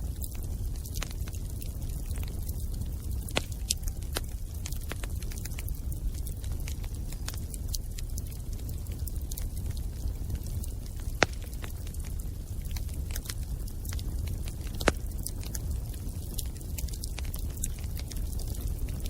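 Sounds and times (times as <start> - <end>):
bonfire flames rumbling: 0.0 - 19.0
burning wood crackling: 0.0 - 19.0
sharp fire pops: 0.0 - 19.0.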